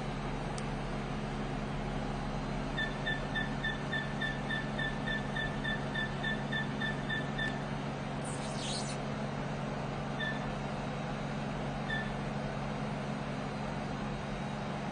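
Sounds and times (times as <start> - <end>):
machine low running hum: 0.0 - 14.9.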